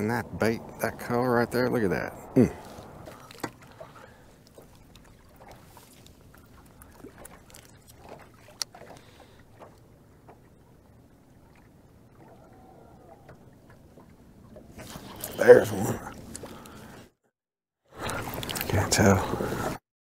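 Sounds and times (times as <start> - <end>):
water lapping against hull: 0.0 - 17.2, 17.9 - 19.8.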